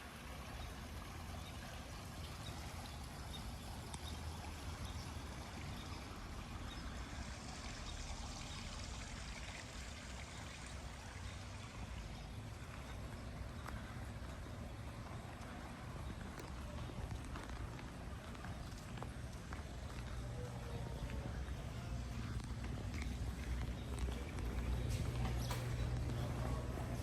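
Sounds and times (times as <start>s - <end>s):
water running: 0.0s - 27.0s.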